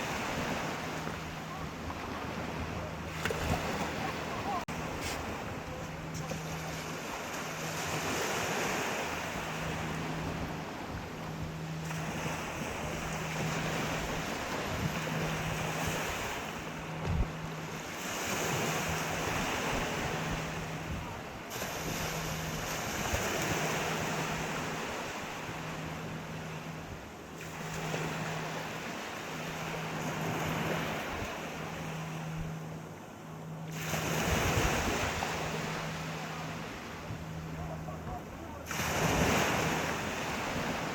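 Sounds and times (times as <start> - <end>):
pulsing low hum: 0.0 - 40.9
sea waves breaking: 0.0 - 40.9.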